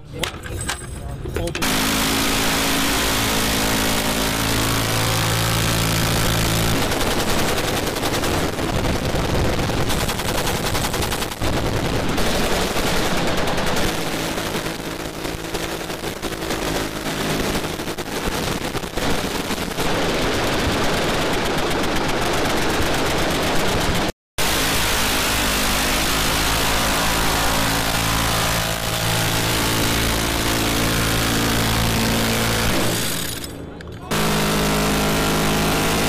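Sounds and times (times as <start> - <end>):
machine gun fire: 1.6 - 36.0.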